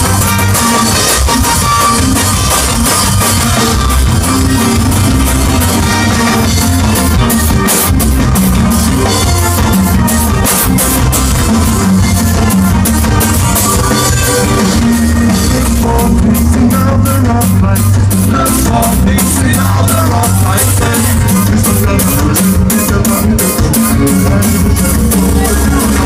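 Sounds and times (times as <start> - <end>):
ska band playing live: 0.0 - 26.0.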